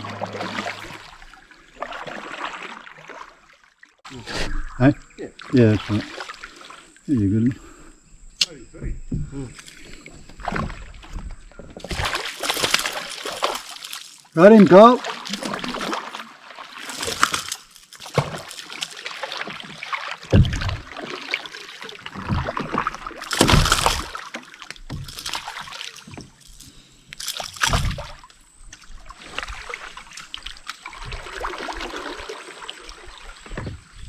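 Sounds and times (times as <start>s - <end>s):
fish splashing: 0.0s - 4.8s, 5.4s - 7.0s, 9.7s - 34.0s
water splashing against a canoe: 0.0s - 34.0s.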